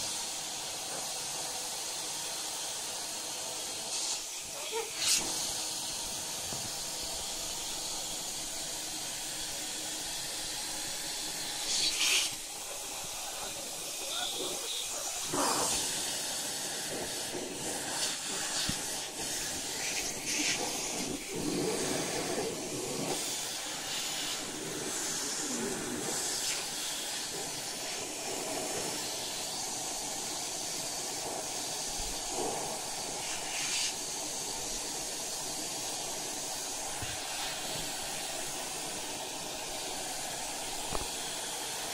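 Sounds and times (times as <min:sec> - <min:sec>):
vacuum hose sucking air: 0:00.0 - 0:41.9.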